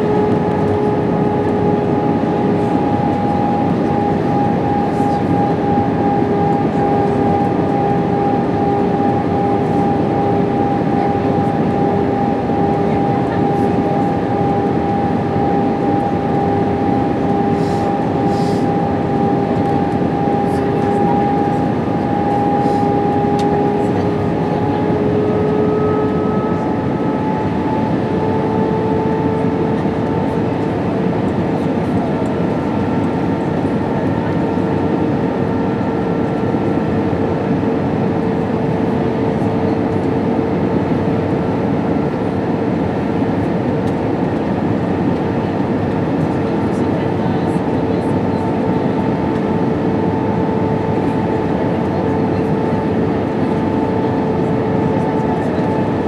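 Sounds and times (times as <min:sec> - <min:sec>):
jet engine roar in cabin: 0:00.0 - 0:56.0.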